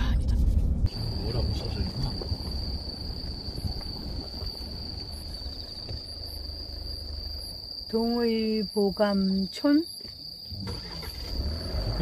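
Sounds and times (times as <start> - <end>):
car driving slowly: 0.0 - 7.9, 10.0 - 12.0
night insects calling: 0.9 - 12.0.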